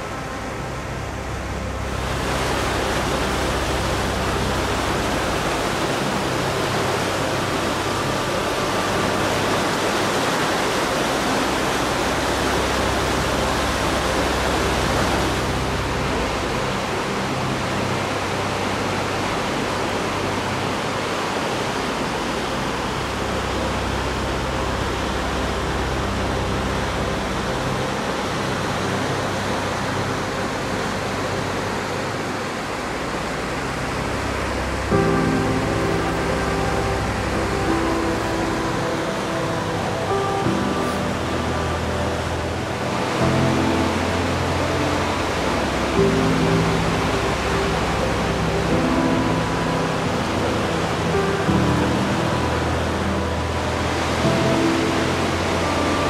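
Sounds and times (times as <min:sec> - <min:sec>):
faint low tones: 0:00.0 - 0:56.0
fast-flowing water rushing: 0:00.0 - 0:56.0.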